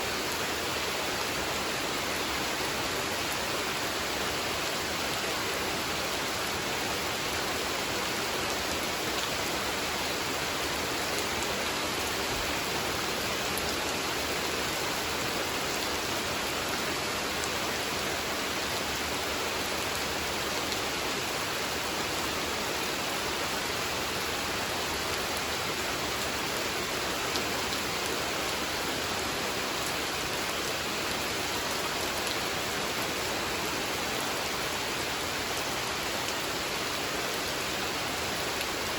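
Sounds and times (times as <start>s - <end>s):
rain falling on a pond: 0.0s - 38.9s.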